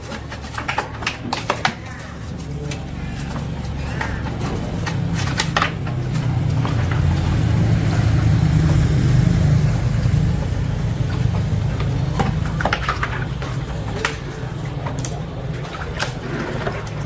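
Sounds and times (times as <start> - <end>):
low engine-like rumble: 1.8 - 17.0.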